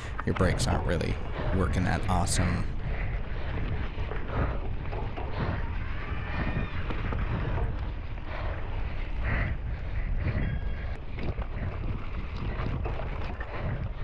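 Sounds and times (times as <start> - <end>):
low rumble: 0.0 - 14.0
wind rushing over microphone: 0.0 - 14.0.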